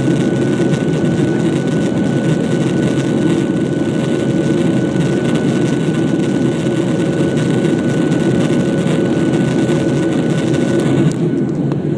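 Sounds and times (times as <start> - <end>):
faint steady whine: 0.0 - 11.9
jet engine roar in cabin: 0.0 - 11.9.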